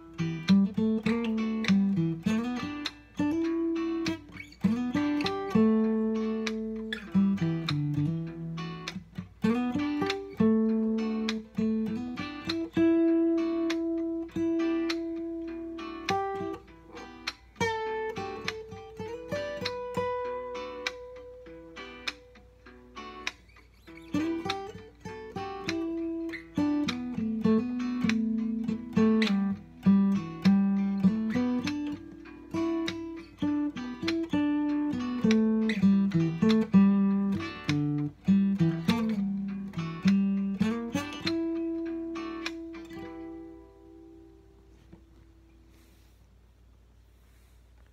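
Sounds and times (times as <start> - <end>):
acoustic guitar playing: 0.0 - 46.6.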